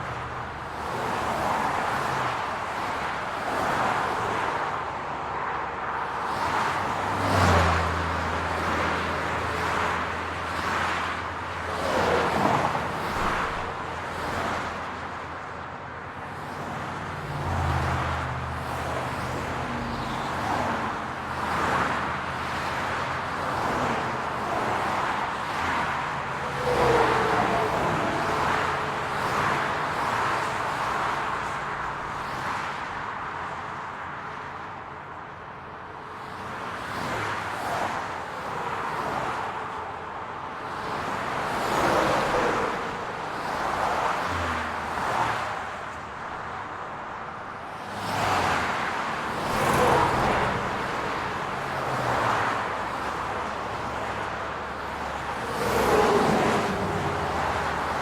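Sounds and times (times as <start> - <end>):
cars passing: 0.0 - 58.0
road noise hum: 0.0 - 58.0.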